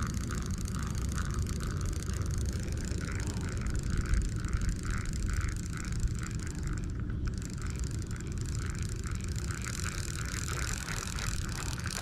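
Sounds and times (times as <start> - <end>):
fishing reel gears whirring: 0.0 - 12.0
wind rumbling on microphone: 0.0 - 12.0.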